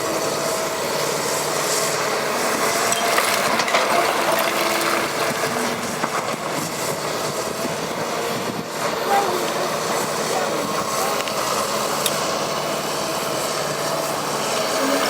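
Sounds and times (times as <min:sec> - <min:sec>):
excavator engine: 0:00.0 - 0:15.0.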